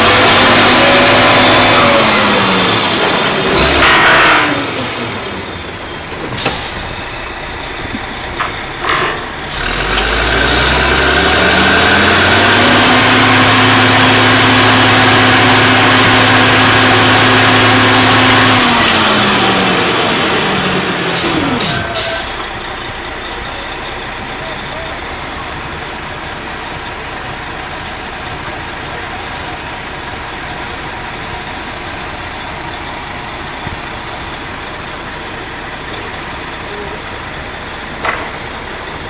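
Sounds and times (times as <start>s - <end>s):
rig engine revving: 0.0s - 39.0s.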